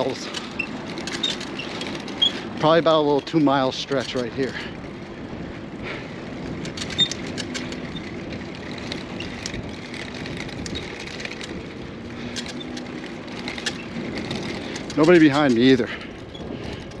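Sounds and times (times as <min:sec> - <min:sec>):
bicycle rolling over stone paving: 0:00.0 - 0:17.0.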